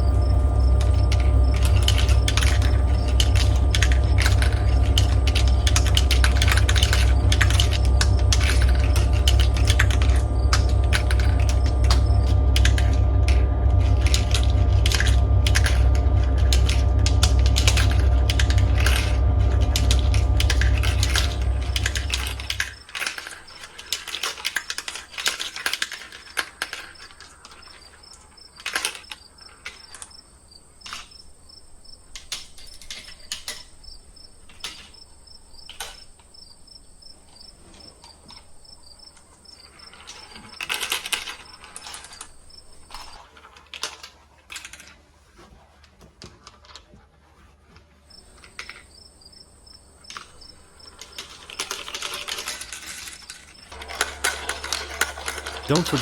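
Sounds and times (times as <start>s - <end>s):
crickets chirping: 0.0s - 24.4s, 25.0s - 43.2s, 48.1s - 56.0s
marbles rolling on plastic tracks: 0.0s - 45.0s, 48.1s - 56.0s.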